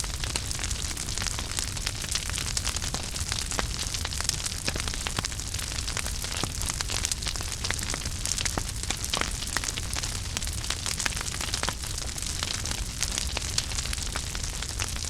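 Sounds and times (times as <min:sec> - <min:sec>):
fire low rumble: 0:00.0 - 0:15.0
fireplace fire crackling: 0:00.0 - 0:15.0.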